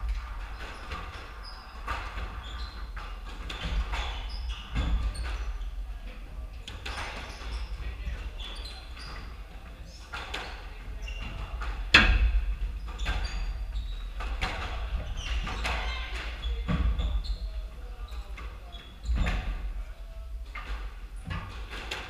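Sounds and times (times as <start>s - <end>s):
sneakers squeaking on floor: 0.4s - 6.0s, 6.8s - 19.7s.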